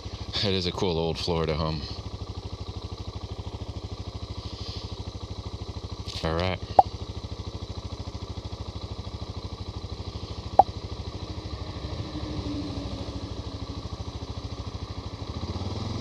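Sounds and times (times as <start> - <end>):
motorcycle engine idling: 0.0 - 12.2, 13.0 - 16.0.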